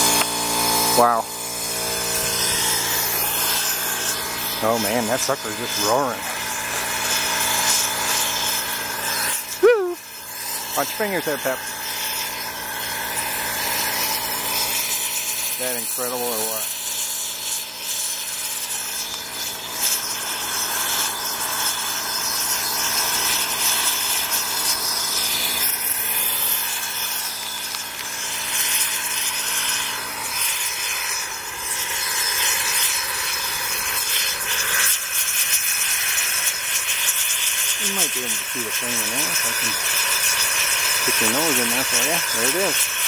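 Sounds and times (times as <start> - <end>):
propane burner roaring: 0.0 - 43.0.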